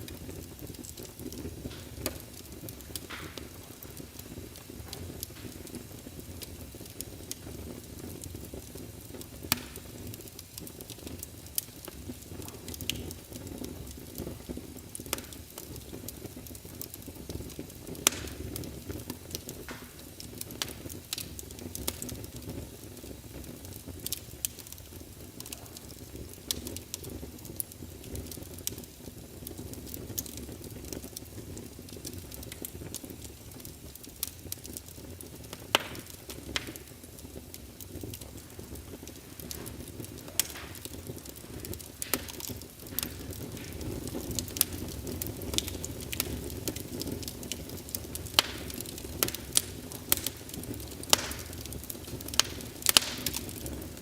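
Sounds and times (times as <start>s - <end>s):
fireplace fire crackling: 0.0s - 54.0s.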